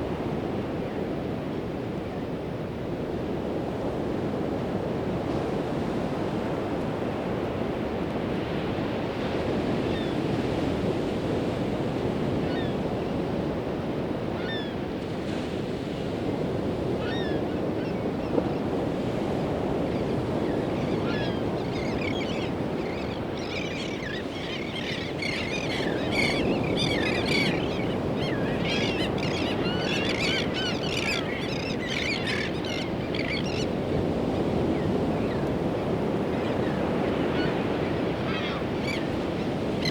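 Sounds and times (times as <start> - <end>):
ocean surf on beach: 0.0 - 39.9.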